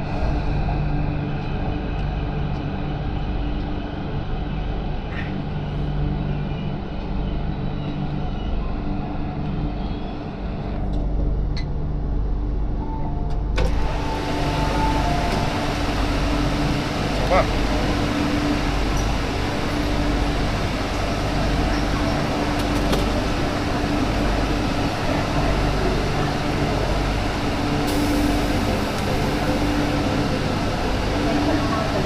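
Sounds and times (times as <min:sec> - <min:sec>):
train rumble and electric hum: 0:00.0 - 0:32.0.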